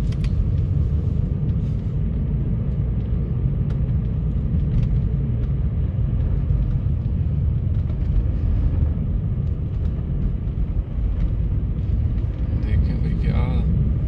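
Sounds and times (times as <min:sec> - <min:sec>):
car driving on snowy road: 0:00.0 - 0:14.0.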